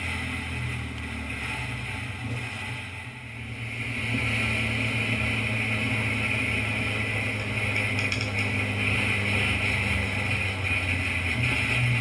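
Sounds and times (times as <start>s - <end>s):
motorcycle engine hum: 0.0s - 12.0s.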